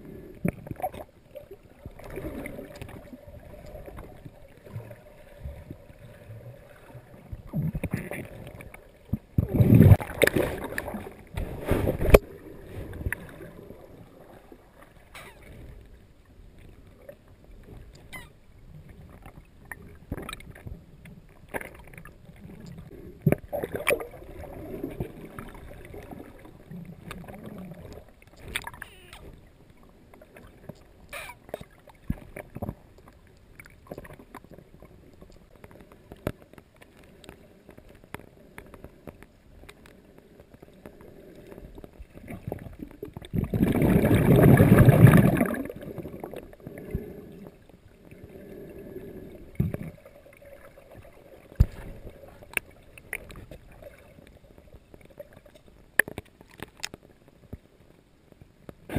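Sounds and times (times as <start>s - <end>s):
muffled underwater water movement: 0.0s - 58.9s.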